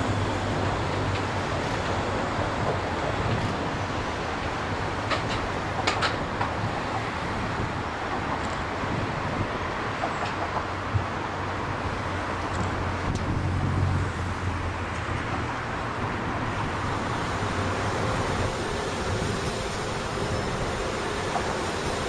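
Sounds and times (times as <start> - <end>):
vehicle rumble and hiss: 0.0 - 22.0.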